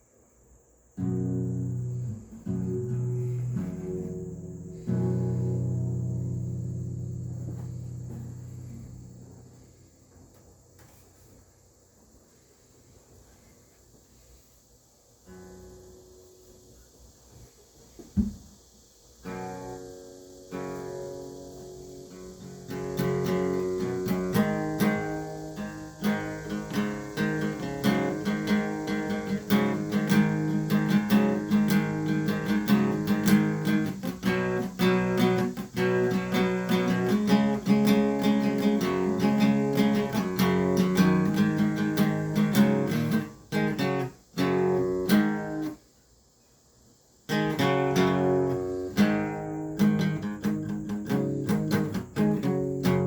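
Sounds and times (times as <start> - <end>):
acoustic guitar picking: 1.0 - 11.1, 15.2 - 16.8, 19.2 - 45.8, 47.3 - 53.0.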